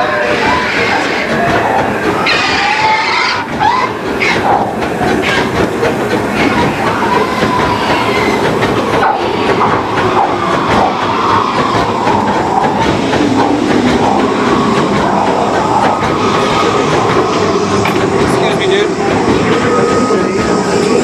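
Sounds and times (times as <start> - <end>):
train wheels clattering over rail joints: 0.0 - 21.0
wavering whine: 3.9 - 21.0.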